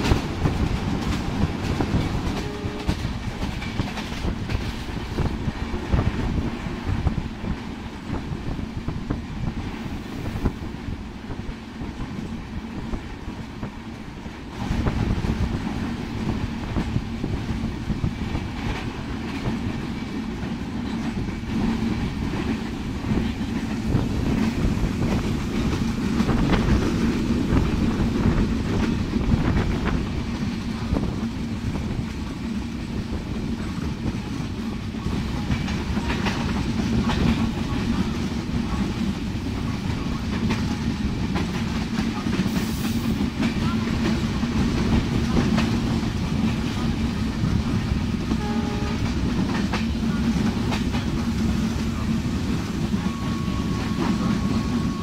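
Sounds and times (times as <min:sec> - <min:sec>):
train wheels clickety-clack: 0:00.0 - 0:55.0.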